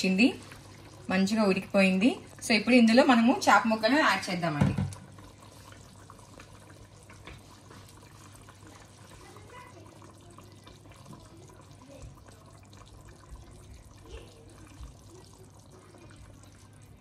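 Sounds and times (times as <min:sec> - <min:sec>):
curry bubbling in a pot: 0:00.0 - 0:17.0.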